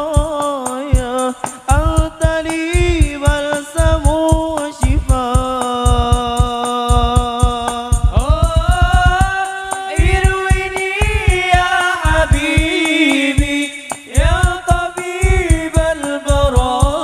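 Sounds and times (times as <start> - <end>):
low drums: 0.0 - 17.0
men singing into microphones: 0.0 - 17.0.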